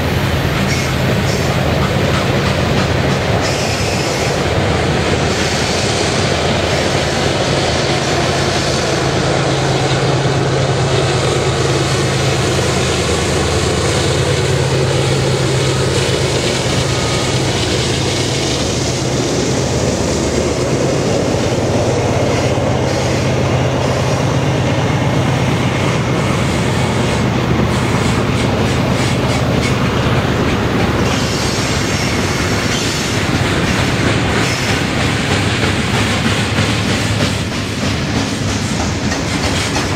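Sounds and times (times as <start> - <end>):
clickety-clack over rail joints: 0.0 - 39.9
steel wheels rumbling on rail: 0.0 - 39.9.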